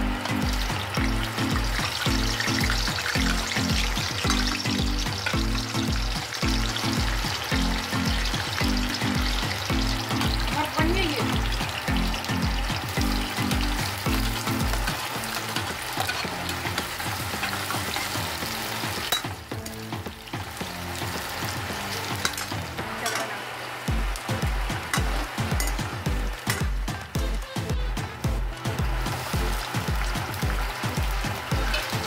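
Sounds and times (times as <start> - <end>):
background music with low beat: 0.0 - 23.1, 23.9 - 32.0
vegetables sizzling in hot oil: 0.0 - 32.0.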